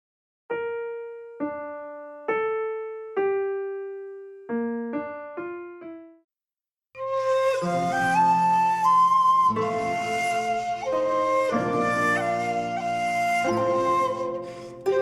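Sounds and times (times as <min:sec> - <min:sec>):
slow solo piano melody: 0:00.5 - 0:06.2, 0:07.0 - 0:15.0.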